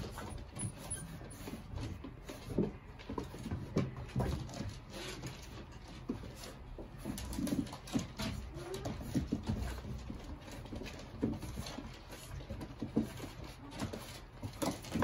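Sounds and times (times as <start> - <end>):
paws scuffling on plywood: 0.0 - 15.0
puppies grunting: 0.0 - 15.0.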